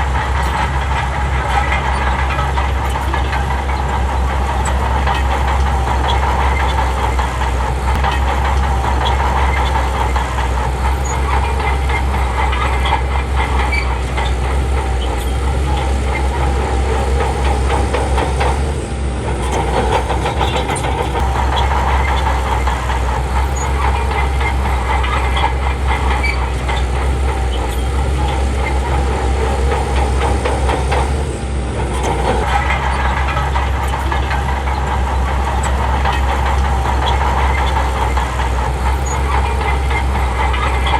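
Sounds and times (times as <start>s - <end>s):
bulldozer diesel engine under load: 0.0s - 40.9s
steel tracks clattering: 0.0s - 40.9s.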